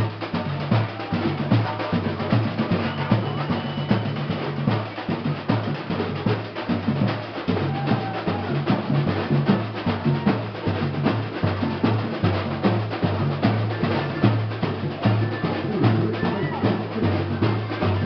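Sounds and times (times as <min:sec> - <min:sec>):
deep bass drums: 0:00.0 - 0:18.0
percussion group playing: 0:00.0 - 0:18.0.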